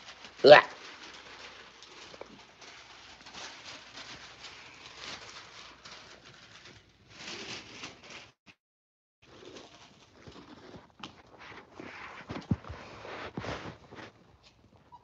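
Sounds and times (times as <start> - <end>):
puppies rustling and scratching: 0.0 - 8.4, 9.5 - 15.0.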